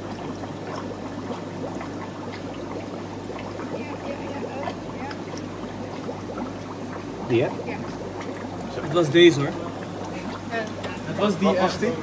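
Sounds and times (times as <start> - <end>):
low electrical hum: 0.0 - 12.0
water trickling and splashing: 0.0 - 12.0.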